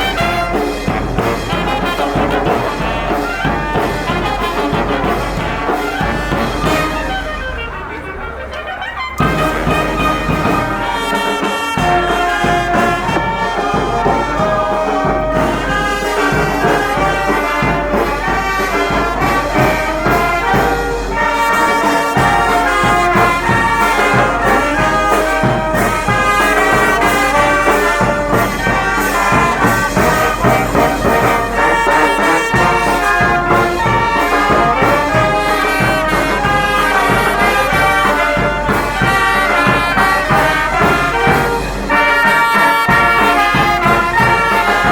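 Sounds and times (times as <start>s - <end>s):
brass band playing slow melody: 0.0s - 44.9s.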